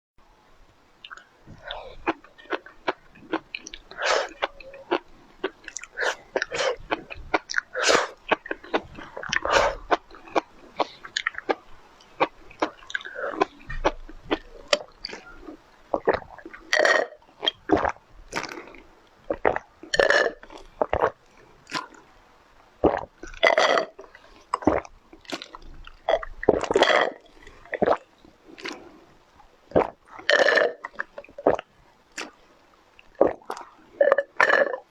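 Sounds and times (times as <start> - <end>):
chewing and wet mouth noises: 1.0 - 22.2, 22.8 - 34.9.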